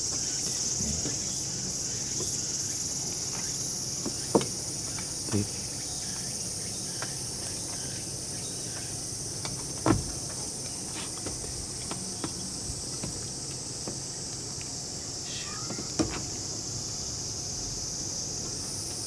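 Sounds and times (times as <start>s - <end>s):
insect chirring: 0.0s - 10.8s, 11.6s - 19.0s.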